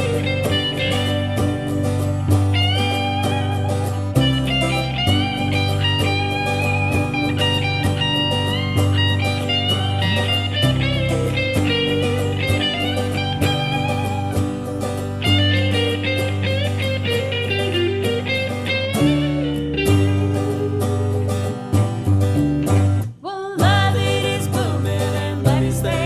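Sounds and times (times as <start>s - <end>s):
electric guitar lead: 0.0s - 26.0s.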